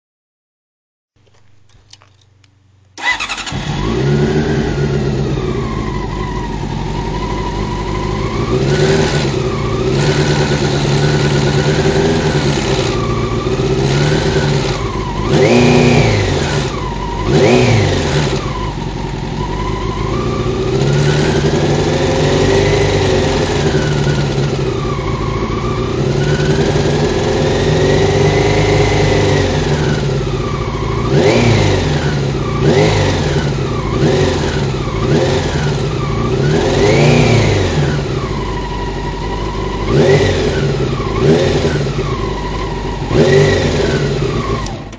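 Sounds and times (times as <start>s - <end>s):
motorcycle engine revving: 3.0s - 44.9s.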